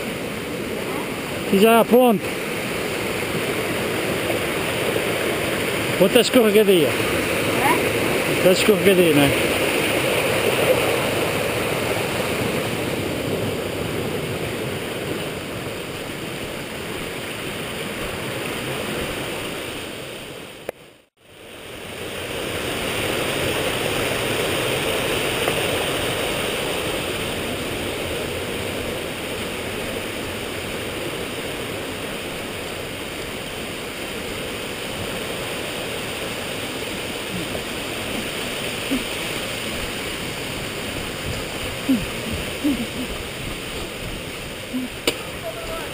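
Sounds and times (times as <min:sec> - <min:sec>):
rushing mountain stream: 0:00.0 - 0:45.9.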